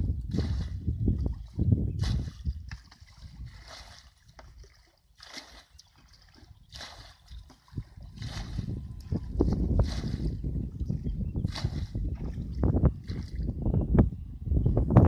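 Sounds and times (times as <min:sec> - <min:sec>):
water splashing and sloshing: 0:00.0 - 0:13.7.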